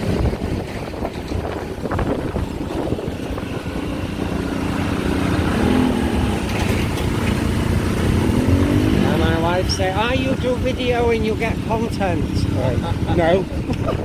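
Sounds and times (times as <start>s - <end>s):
motorbike engine running: 0.0s - 14.0s
road rumble: 0.0s - 14.0s
wind on microphone: 0.0s - 14.0s.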